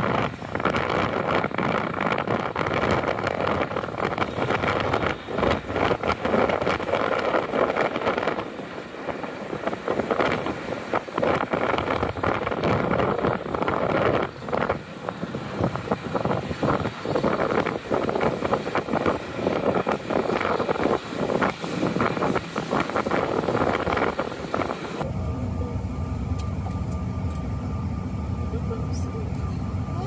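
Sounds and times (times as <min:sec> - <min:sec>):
city traffic from inside car: 0:00.0 - 0:30.0
wind buffeting microphone: 0:00.0 - 0:30.0.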